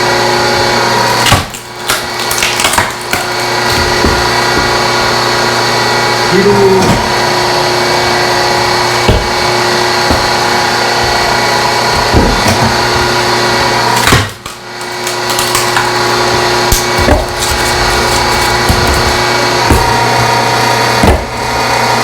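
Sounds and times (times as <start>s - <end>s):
log splitter motor hum: 0.0s - 22.0s
wood cracking and splitting: 0.3s - 22.0s.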